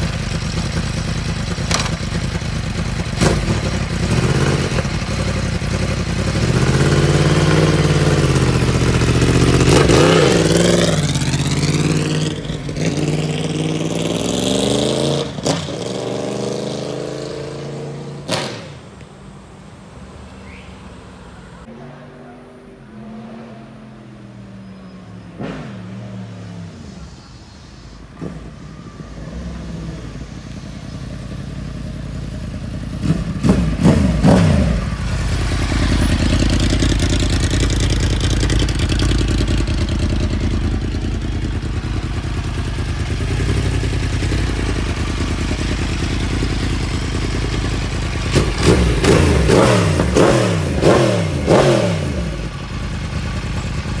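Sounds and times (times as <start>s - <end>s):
motorcycle engine revving: 0.0s - 18.8s, 28.2s - 54.0s.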